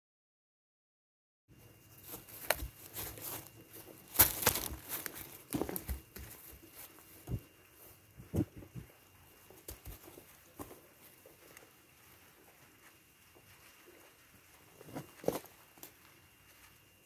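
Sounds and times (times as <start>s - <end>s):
goats rustling in bedding: 1.6s - 17.0s.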